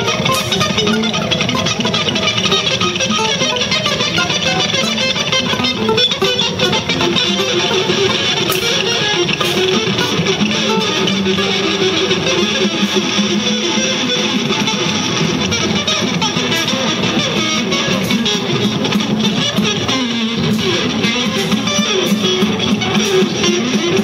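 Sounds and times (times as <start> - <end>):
plucked string music: 0.0 - 24.0.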